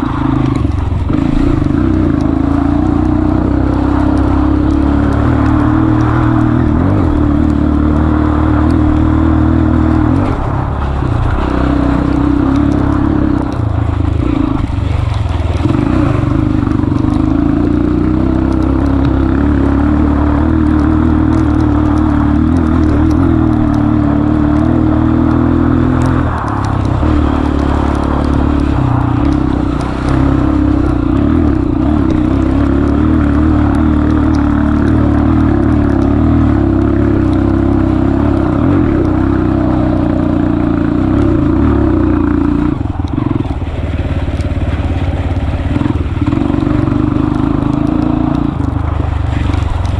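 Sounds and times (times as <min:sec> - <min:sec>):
motorcycle engine under throttle: 0:00.0 - 0:49.9.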